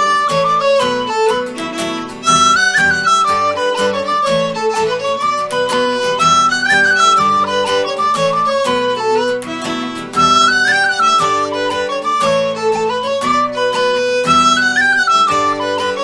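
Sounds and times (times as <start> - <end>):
fiddle: 0.0 - 16.0
strummed acoustic guitar: 0.0 - 16.0
tin whistle: 0.0 - 16.0.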